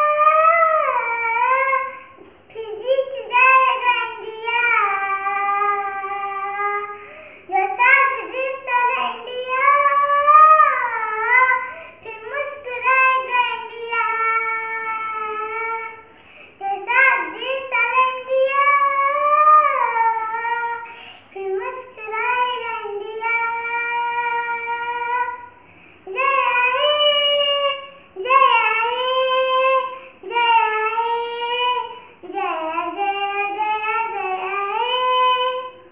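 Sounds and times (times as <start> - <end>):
girl singing unaccompanied: 0.0 - 35.9.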